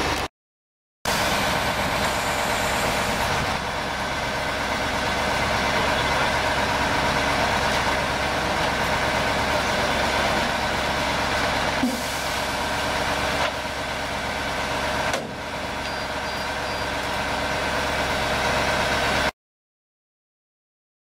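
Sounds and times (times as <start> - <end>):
diesel truck engine idling: 1.1 - 19.3.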